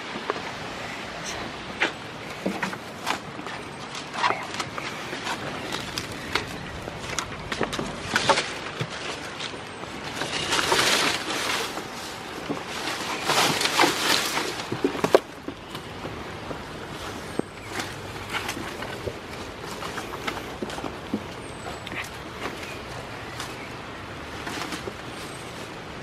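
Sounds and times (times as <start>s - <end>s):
leaves and twigs rustling: 0.0s - 26.0s.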